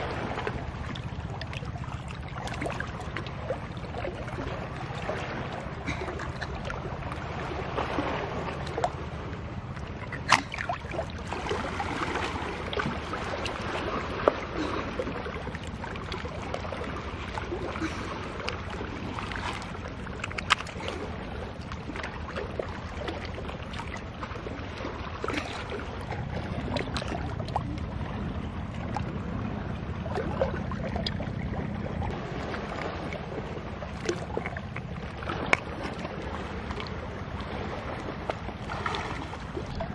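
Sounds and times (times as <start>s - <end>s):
water lapping against rock: 0.0s - 39.9s.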